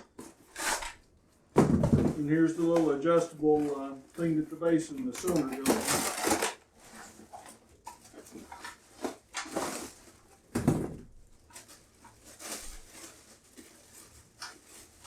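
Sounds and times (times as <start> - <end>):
packaging rustling: 1.6 - 15.0.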